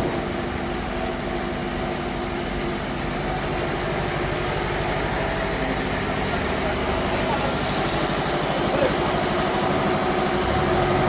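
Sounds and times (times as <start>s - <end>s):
sawmill machinery drone: 0.0s - 11.0s.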